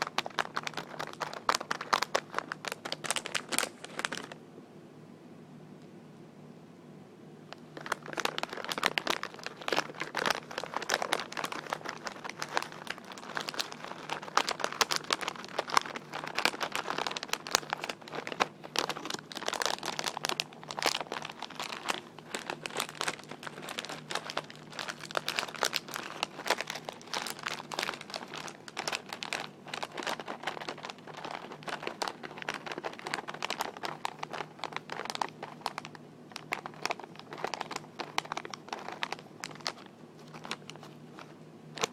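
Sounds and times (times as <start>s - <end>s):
fingers crinkling material: 0.0s - 4.4s, 7.5s - 41.9s.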